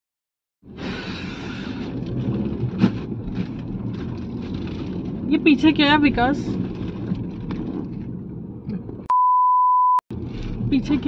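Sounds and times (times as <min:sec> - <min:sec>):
road and wind noise in car: 0:00.6 - 0:09.1, 0:10.1 - 0:11.0.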